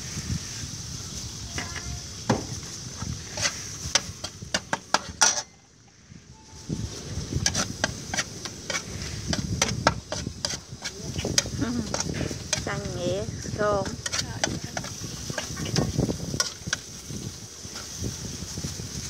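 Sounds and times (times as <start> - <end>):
meat sizzling: 0.0 - 5.9, 6.6 - 19.0
metal spatula scraping a wok: 2.6 - 5.9, 6.6 - 18.7.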